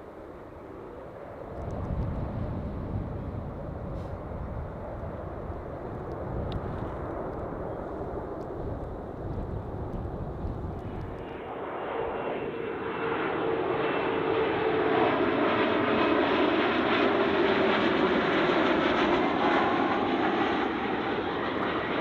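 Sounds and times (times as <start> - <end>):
airliner passing low overhead: 0.0 - 22.0.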